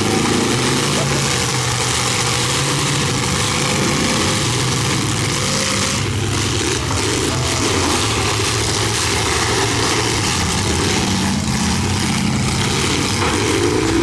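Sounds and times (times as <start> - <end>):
car engines running: 0.0 - 14.0.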